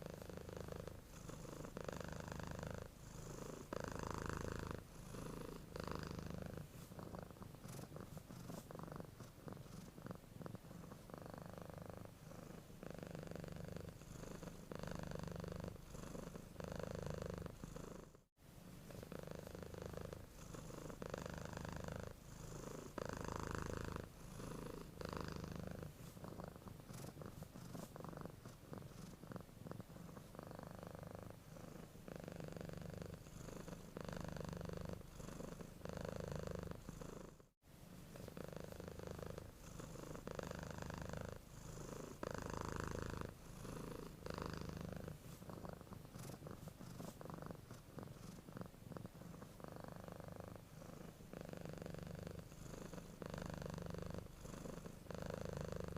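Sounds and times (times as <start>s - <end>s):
cat purring: 0.0s - 55.9s.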